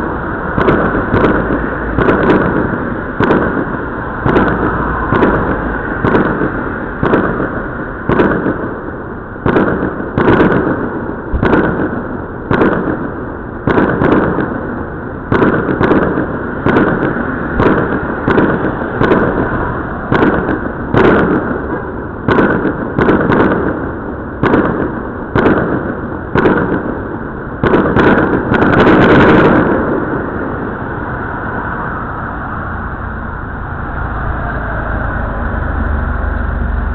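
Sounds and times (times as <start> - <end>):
firework shells bursting: 0.0 - 31.0
firework crackling: 0.0 - 36.9.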